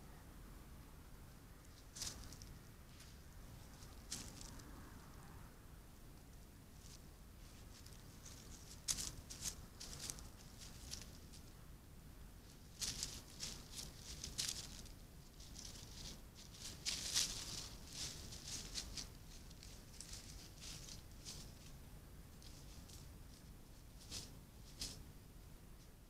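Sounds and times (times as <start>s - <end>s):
fox rustling and scratching: 1.6s - 5.2s, 6.3s - 11.6s, 12.4s - 25.2s.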